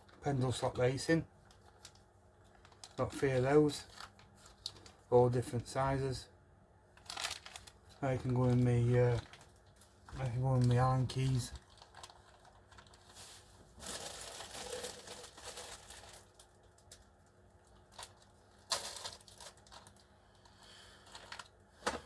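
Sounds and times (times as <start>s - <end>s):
rustling and crinkling: 1.4s - 5.1s, 7.0s - 22.0s.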